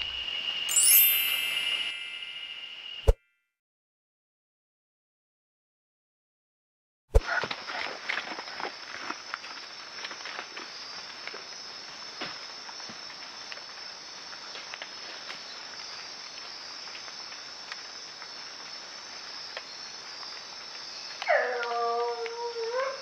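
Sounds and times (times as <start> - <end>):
night insects chorus: 0.0 - 3.1, 7.3 - 23.0.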